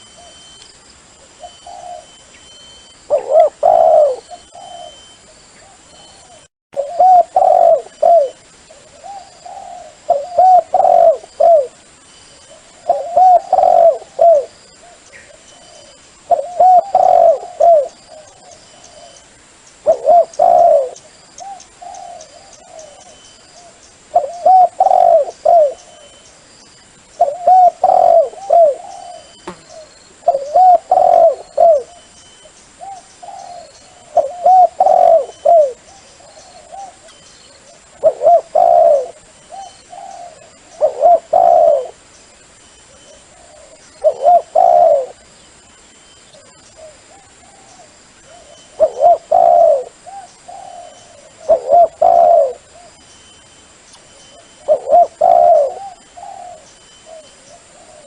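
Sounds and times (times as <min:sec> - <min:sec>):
dove cooing: 0:01.2 - 0:11.8, 0:12.5 - 0:19.2, 0:19.8 - 0:26.2, 0:27.2 - 0:32.1, 0:32.8 - 0:42.1, 0:42.9 - 0:45.3, 0:46.4 - 0:53.0, 0:54.3 - 0:58.0.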